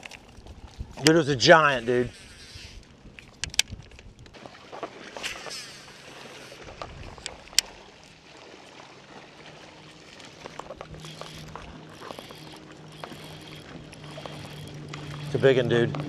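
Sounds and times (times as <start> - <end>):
water: 0.0 - 16.0
wind: 0.0 - 16.0.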